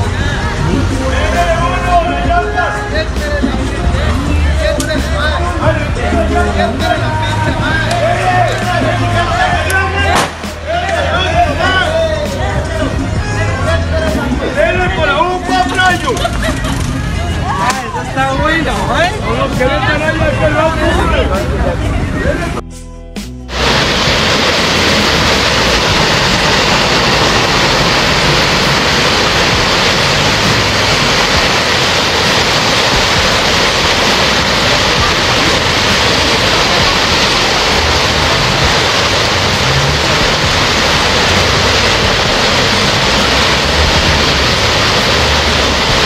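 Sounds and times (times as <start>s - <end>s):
floodwater rushing: 0.0s - 21.8s, 23.5s - 46.0s
heavy rain: 0.0s - 22.5s, 23.5s - 46.0s.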